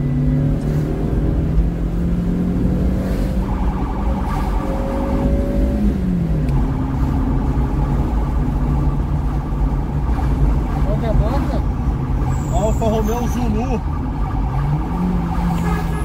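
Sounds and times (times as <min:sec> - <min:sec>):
car engine and road noise: 0:00.0 - 0:16.0
police siren: 0:02.5 - 0:16.0.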